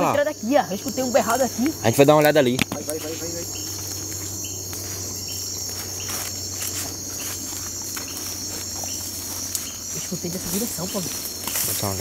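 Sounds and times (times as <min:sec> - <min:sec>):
insects trilling: 0:00.0 - 0:12.0
short insect chirp: 0:00.0 - 0:12.0.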